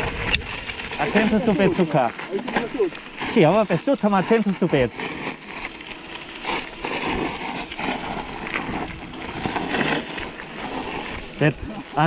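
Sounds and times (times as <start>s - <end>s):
bike rattling over bumps: 0.0s - 12.0s
tyres crunching on gravel: 0.0s - 12.0s.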